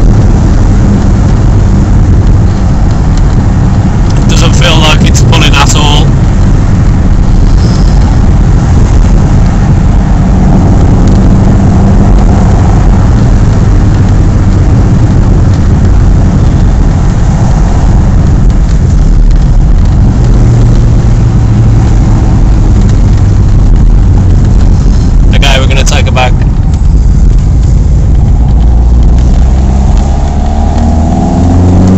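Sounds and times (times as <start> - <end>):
car engine running: 0.0 - 31.9
road and wind noise: 0.0 - 31.9.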